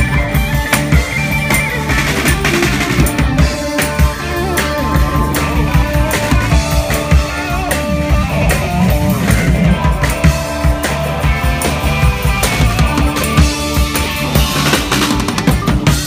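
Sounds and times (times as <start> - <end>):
drum kit beat: 0.0 - 16.0
electric guitar: 0.0 - 16.0.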